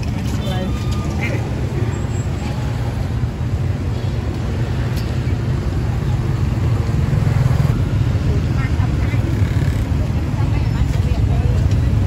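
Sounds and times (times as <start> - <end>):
outdoor market noise: 0.0 - 12.0
street traffic rumble: 0.0 - 12.0.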